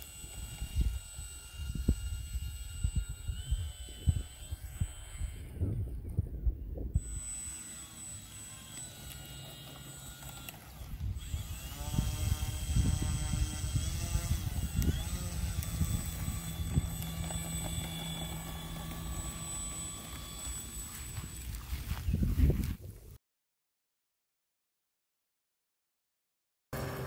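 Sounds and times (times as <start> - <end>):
electric motor and propeller whine: 0.0 - 23.1, 26.8 - 27.0.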